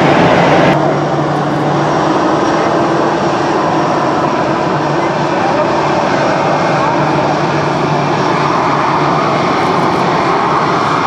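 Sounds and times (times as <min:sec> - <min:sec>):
jet engine hiss: 0:00.0 - 0:11.0
jet engines rumbling: 0:00.0 - 0:11.0.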